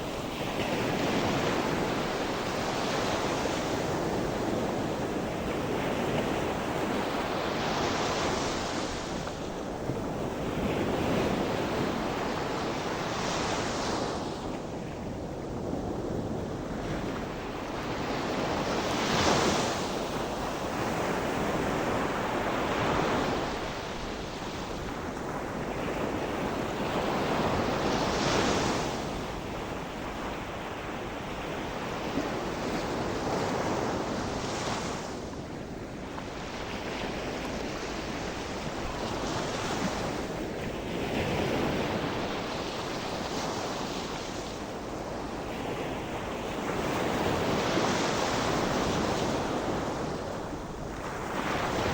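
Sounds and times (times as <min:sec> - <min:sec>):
wind noise on microphone: 0:00.0 - 0:51.9.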